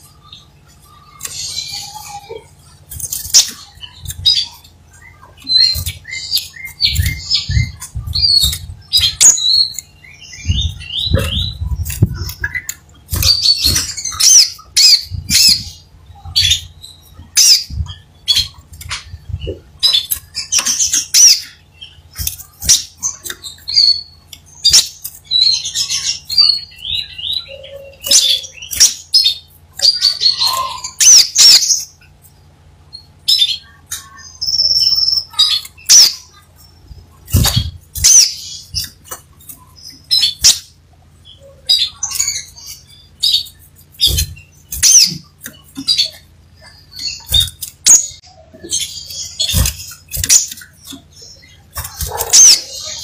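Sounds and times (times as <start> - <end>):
bird chirping and trilling: 0.0 - 53.0
steady low hum: 0.0 - 53.0.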